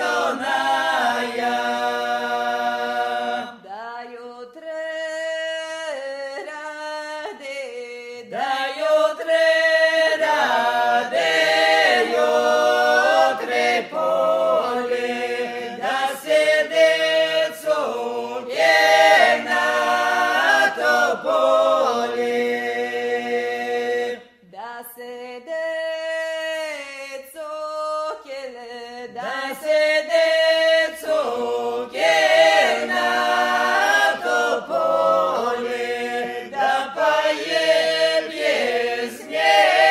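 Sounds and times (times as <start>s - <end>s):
unaccompanied group singing: 0.0s - 26.6s, 29.0s - 39.9s.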